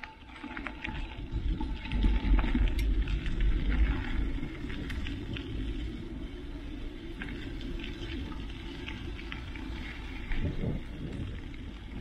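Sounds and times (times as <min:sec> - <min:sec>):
bike tyres crackling over gravel: 0:00.0 - 0:12.0
wind rumbling on microphone: 0:00.0 - 0:12.0.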